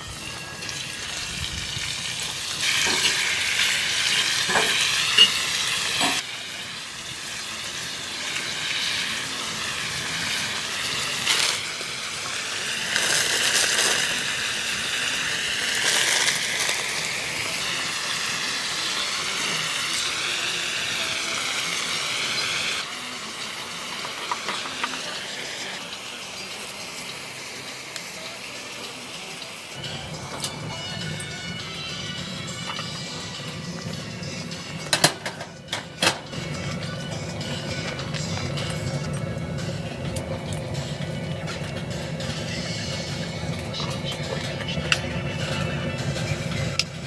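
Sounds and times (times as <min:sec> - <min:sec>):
food sizzling in a pan: 0:00.0 - 0:47.0.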